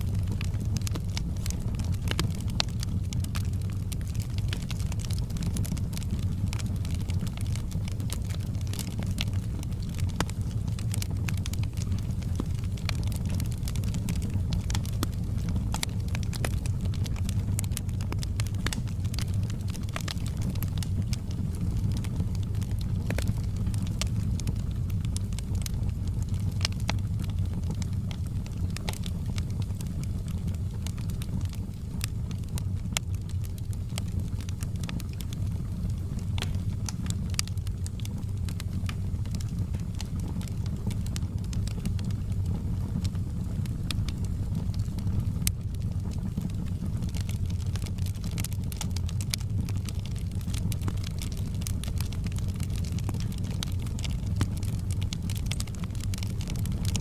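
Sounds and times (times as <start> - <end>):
wood fire roaring and crackling: 0.0 - 57.0.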